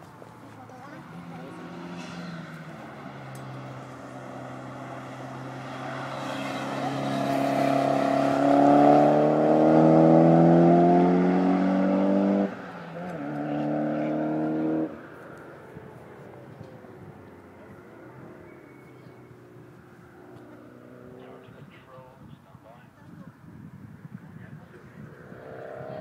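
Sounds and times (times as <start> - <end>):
race car accelerating past: 1.0 - 15.9, 16.6 - 21.7, 24.9 - 26.0.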